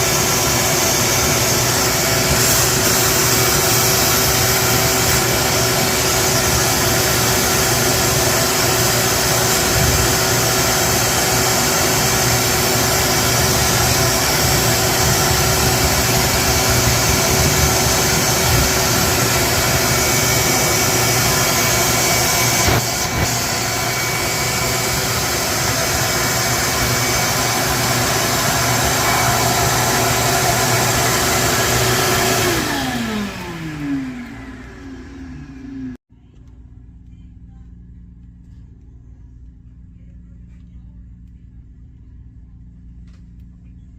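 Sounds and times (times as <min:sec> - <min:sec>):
washer drain pump humming: 0:00.0 - 0:36.5.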